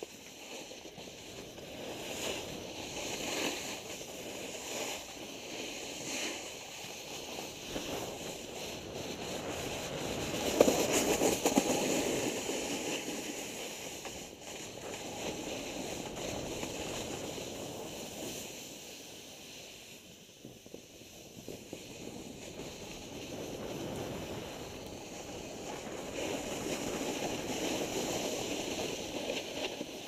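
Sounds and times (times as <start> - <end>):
snowboard scraping over snow: 0.0 - 30.0.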